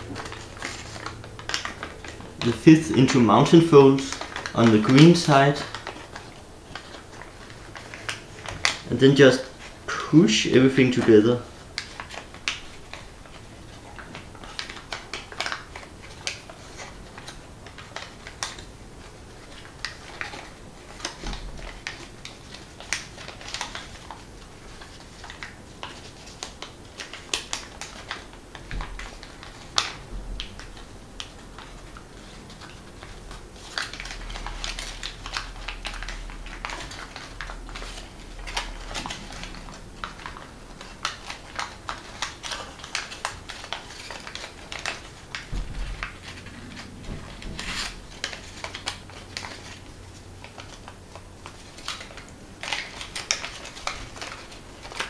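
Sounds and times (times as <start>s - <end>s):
paper crackling and crinkling: 0.0s - 55.0s.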